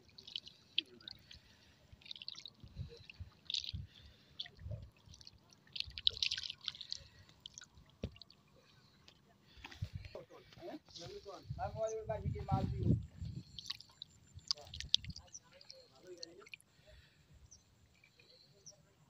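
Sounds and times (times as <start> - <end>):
shallow water splashing: 0.0 - 10.1, 12.4 - 18.7.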